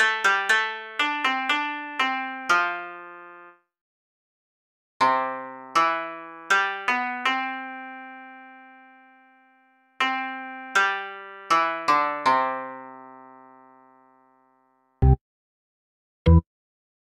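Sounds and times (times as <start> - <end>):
piano-like keyboard notes: 0.0 - 3.6, 5.0 - 15.2.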